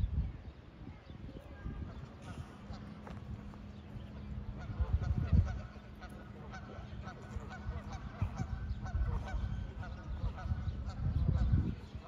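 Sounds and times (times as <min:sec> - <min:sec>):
waterfowl honking: 0:01.9 - 0:12.0.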